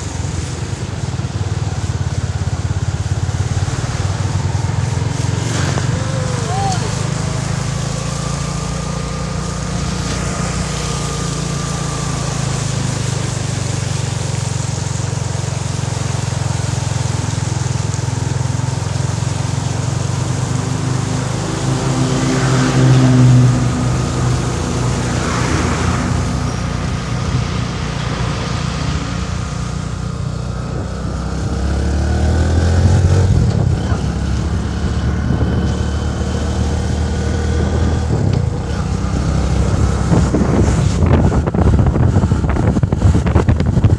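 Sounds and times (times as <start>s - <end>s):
motorcycle engine revving: 0.0s - 43.9s
motorcycle splashing through water: 0.0s - 43.9s.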